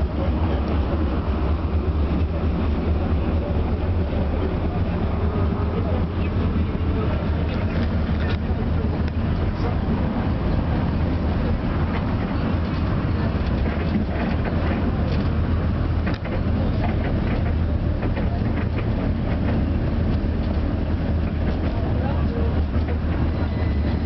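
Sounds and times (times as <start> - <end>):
tram running rumble: 0.0 - 24.0
wheels clicking on rails: 0.0 - 24.0.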